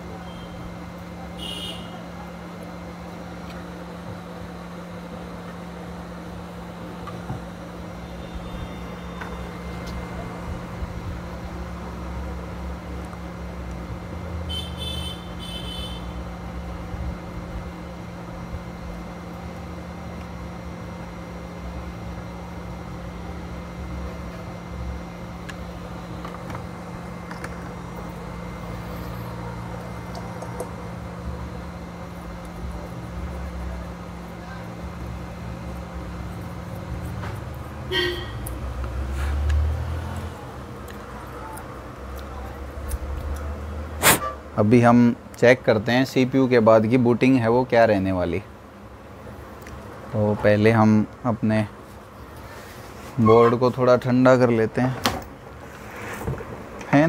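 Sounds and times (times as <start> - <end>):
fan-driven equipment hum: 0.0 - 57.0.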